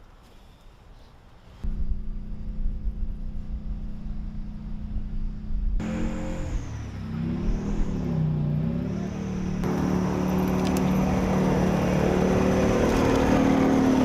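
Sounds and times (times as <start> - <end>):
engine revving: 1.7 - 14.0
heavy vehicle engine running: 1.7 - 14.0.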